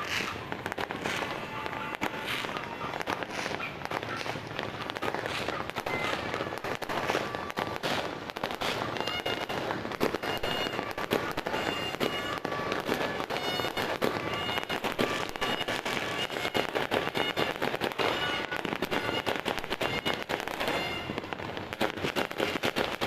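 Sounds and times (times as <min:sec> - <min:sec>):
firecrackers crackling: 0:00.0 - 0:23.0.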